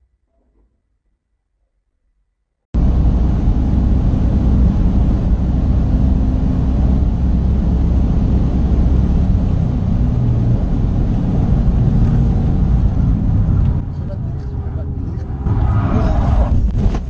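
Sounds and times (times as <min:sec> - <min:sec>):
car interior road rumble: 0:02.8 - 0:17.0.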